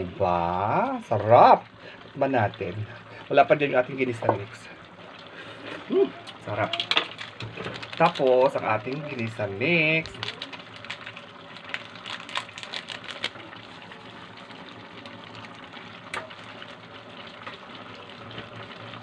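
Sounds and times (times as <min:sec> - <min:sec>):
pot simmering with watery hiss: 0:00.0 - 0:19.0.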